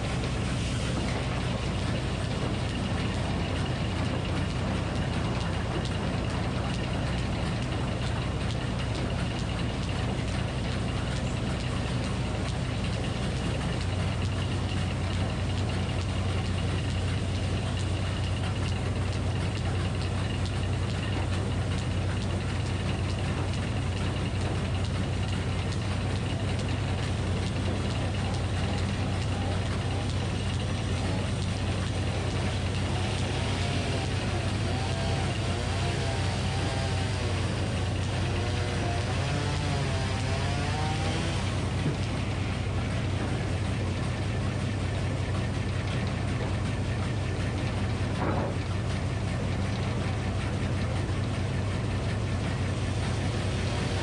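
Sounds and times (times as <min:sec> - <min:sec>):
engine running sawmill: 0:00.0 - 0:54.0.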